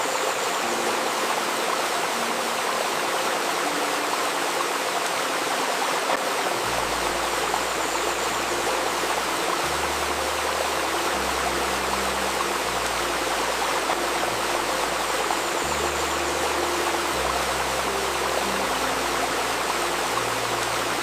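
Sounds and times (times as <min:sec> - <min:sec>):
river stream rushing and babbling: 0:00.0 - 0:21.0.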